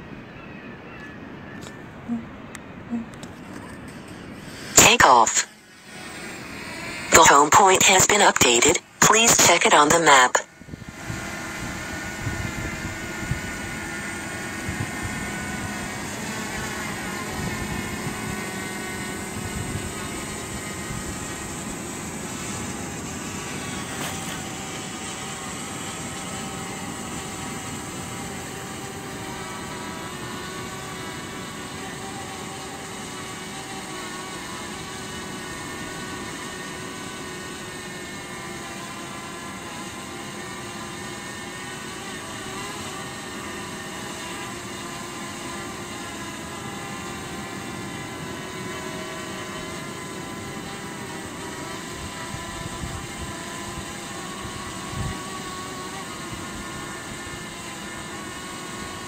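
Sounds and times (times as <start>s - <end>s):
drone propellers buzzing: 1.6s - 4.8s, 5.4s - 7.1s, 10.5s - 59.0s.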